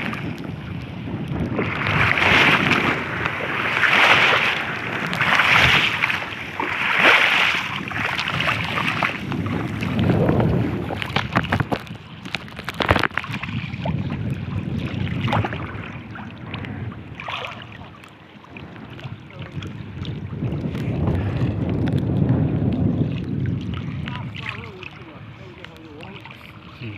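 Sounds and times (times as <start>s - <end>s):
strong wind buffeting microphone: 0.0s - 26.9s
water sloshing: 0.0s - 26.9s.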